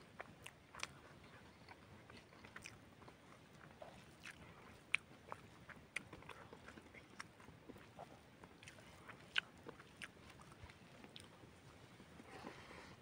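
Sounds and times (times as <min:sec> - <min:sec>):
chewing and wet mouth clicks: 0:00.2 - 0:11.4.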